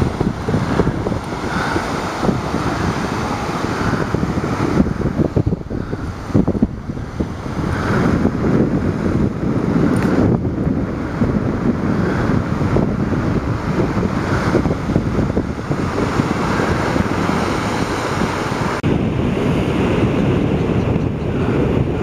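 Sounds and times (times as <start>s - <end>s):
ocean surf: 0.0s - 22.0s
wind buffeting microphone: 0.0s - 22.0s.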